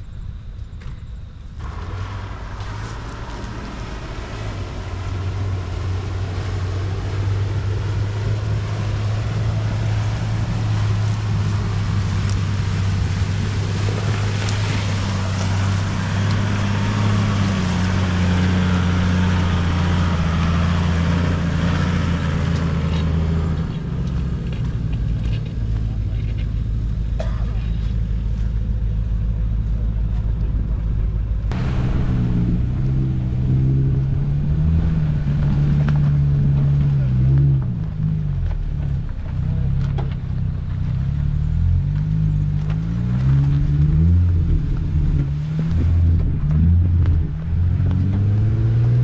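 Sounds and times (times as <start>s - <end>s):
vehicle engine running: 0.0s - 49.0s
water splashing: 1.6s - 29.6s, 30.7s - 49.0s.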